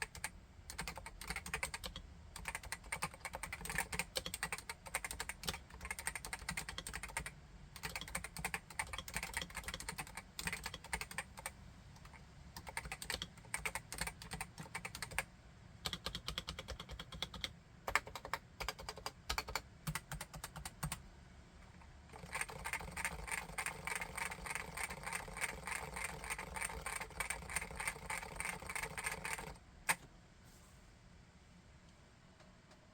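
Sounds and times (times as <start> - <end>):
typing on a keyboard: 0.0 - 21.0, 22.1 - 30.0.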